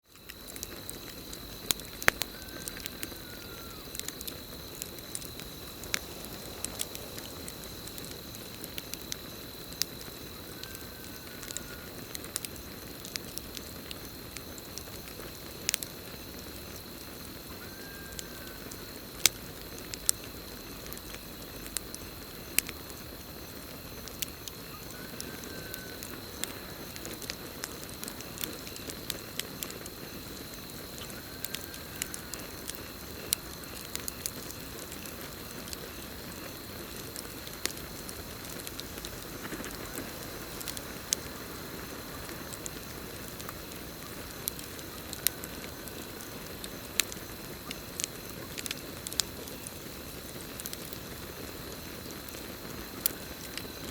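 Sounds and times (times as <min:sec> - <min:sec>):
campfire crackling and popping: 0:00.0 - 0:53.9
crickets trilling: 0:00.0 - 0:53.9.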